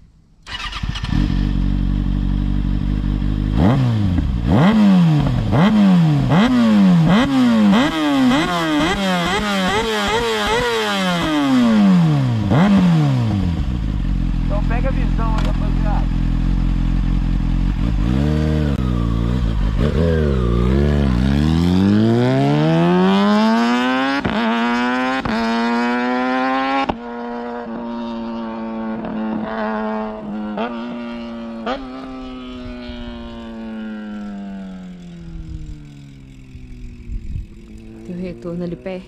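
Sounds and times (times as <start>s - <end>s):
motorcycle engine idling and revving: 0.0s - 39.0s.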